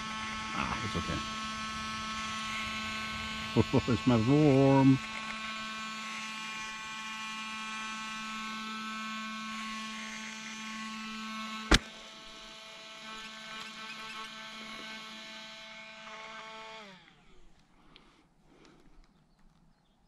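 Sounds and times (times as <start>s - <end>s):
cooling fans humming whine: 0.0s - 17.6s.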